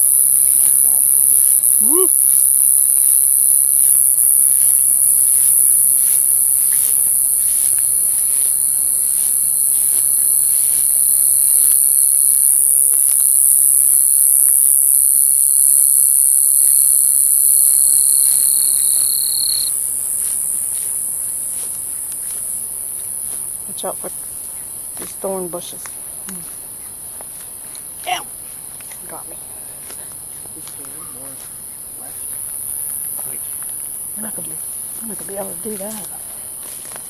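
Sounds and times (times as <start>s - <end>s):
chorus of crickets and insects: 0.0s - 37.0s
low insect trill: 0.0s - 37.0s.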